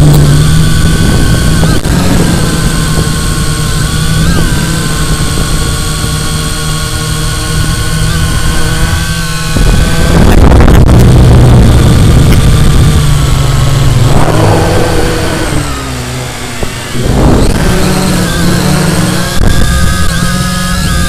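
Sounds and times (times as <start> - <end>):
rushing air: 0.0 - 20.2
drone motors buzzing whine: 0.0 - 21.0.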